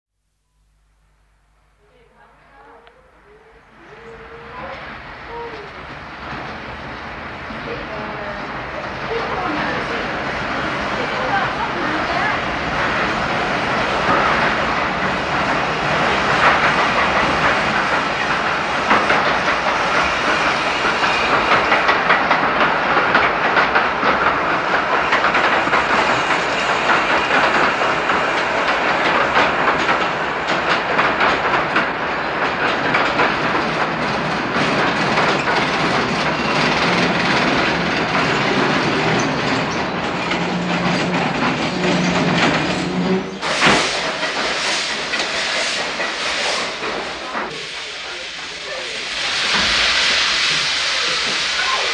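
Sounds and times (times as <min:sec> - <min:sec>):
train wheels clattering over rails: 0:04.8 - 0:51.9.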